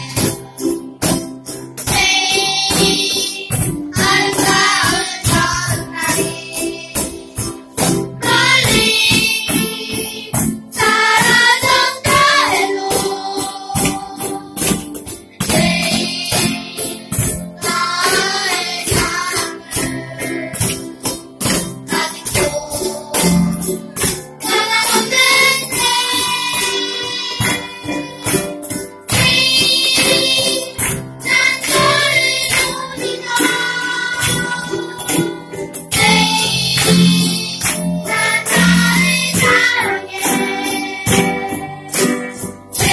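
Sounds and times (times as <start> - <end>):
cajon beat: 0.0 - 42.9
children's choir singing: 0.0 - 42.9
keyboard: 0.0 - 42.9
ukuleles: 0.0 - 42.9.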